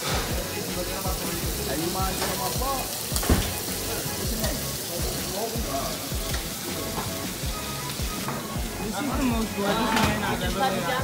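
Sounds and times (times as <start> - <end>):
food sizzling in woks: 0.0 - 11.0
music with steady beat: 0.0 - 11.0.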